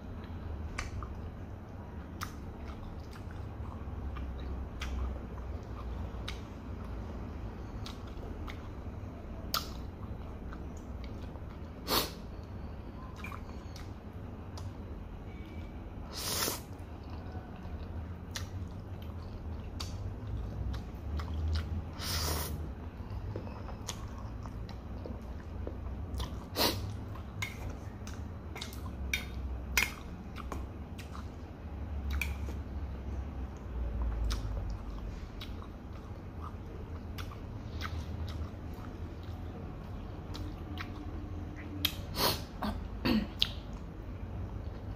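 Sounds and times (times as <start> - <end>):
chewing with wet smacks: 0.0 - 15.8, 16.6 - 44.9.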